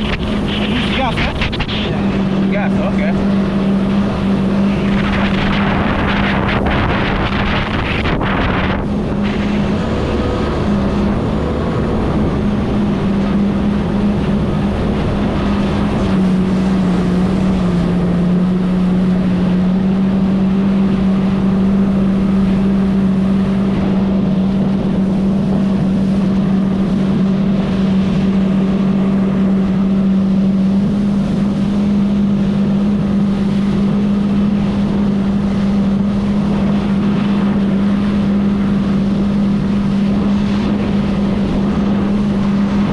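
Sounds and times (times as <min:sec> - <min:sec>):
jet ski engine running: 0:00.0 - 0:42.9.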